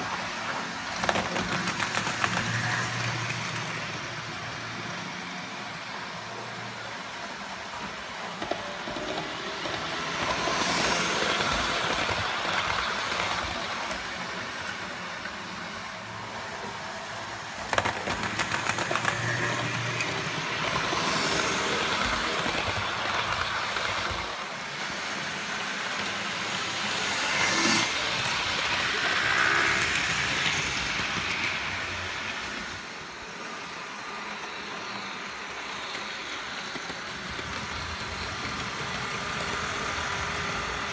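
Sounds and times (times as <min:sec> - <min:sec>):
model trains whirring and rattling: 0:00.0 - 0:40.9.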